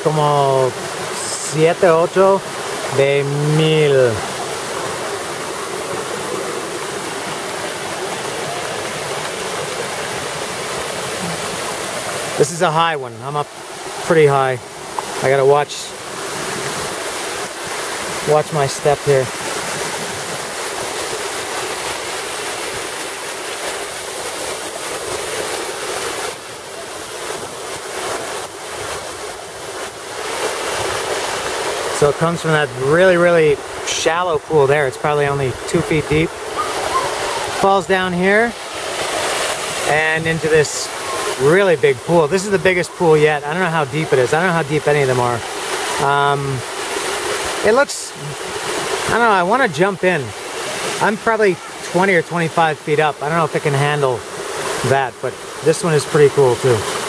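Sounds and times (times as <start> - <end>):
waterfall rushing into pool: 0.0 - 57.0.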